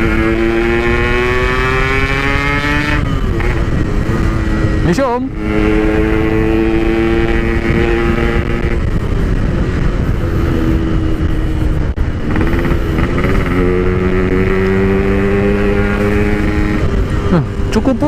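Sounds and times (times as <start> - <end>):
motorcycle engine: 0.0 - 18.0
wind rumble: 0.0 - 18.0.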